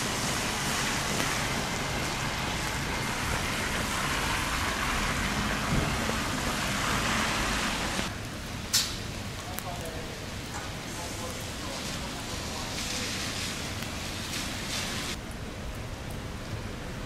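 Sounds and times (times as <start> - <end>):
rain on wet pavement: 0.0 - 17.0.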